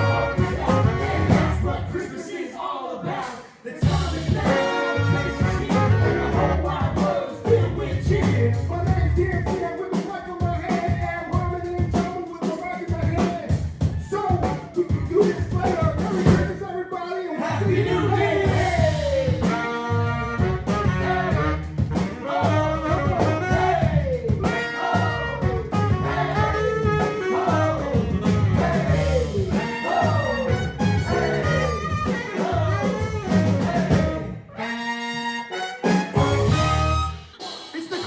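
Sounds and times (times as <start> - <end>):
live band with brass and singing: 0.0 - 38.0.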